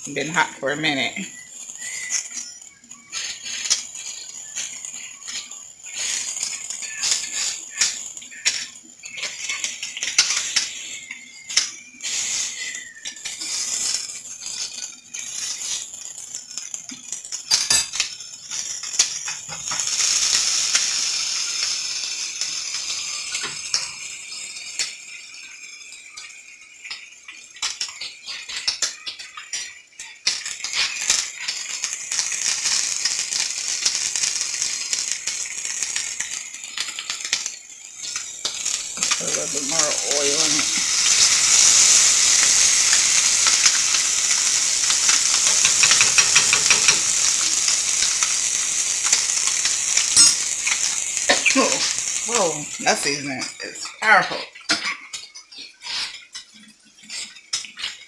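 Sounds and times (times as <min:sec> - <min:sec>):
fish sizzling in hot oil: 0:00.0 - 0:58.0
oil crackling and popping: 0:00.0 - 0:58.0.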